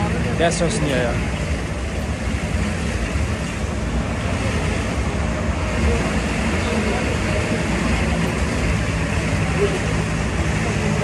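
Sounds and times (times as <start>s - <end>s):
road and wind noise: 0.0s - 11.0s
vehicle engine running: 0.0s - 11.0s.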